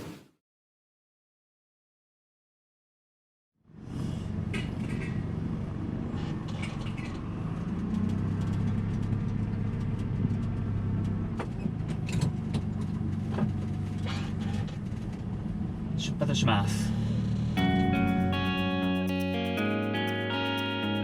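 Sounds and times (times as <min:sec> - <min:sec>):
vehicle engine humming: 0:03.7 - 0:21.0.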